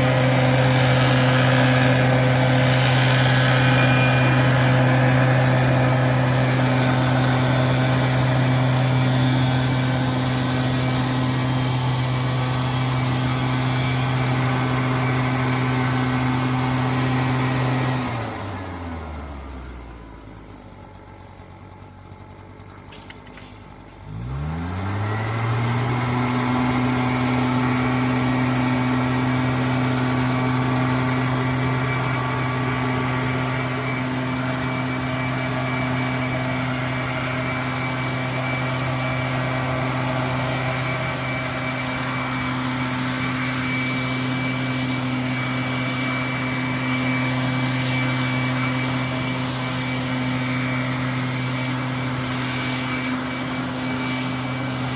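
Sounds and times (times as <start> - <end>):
engine starting and running: 0.0 - 54.9.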